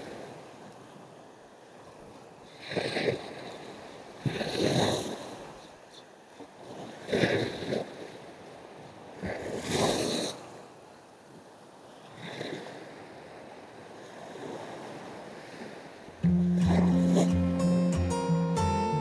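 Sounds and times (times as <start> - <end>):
waves washing up a beach: 0.0 - 17.4.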